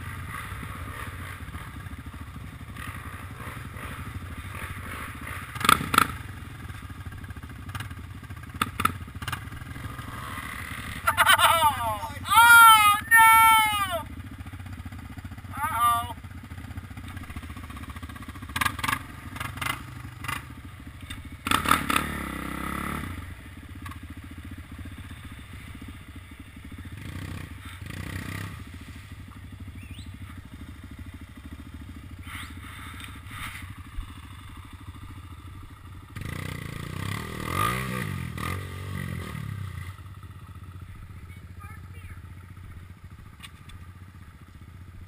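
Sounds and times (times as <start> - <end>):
atv engines idling and revving: 0.0 - 45.0.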